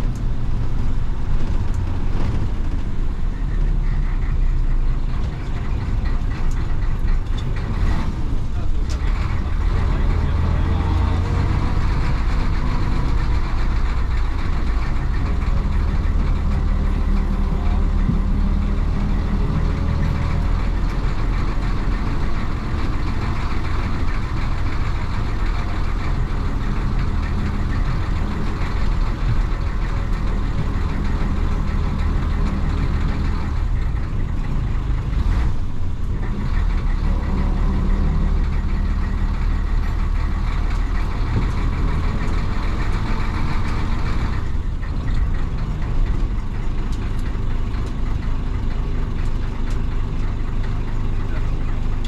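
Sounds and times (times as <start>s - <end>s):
diesel bus engine running: 0.0s - 52.0s.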